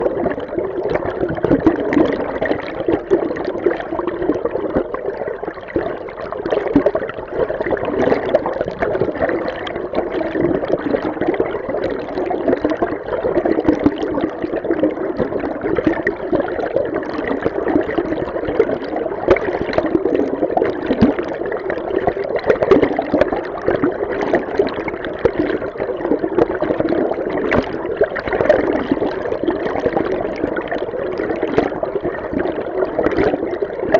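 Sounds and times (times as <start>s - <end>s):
fine bubbling: 0.0s - 33.9s
muffled underwater water rush: 0.0s - 33.9s.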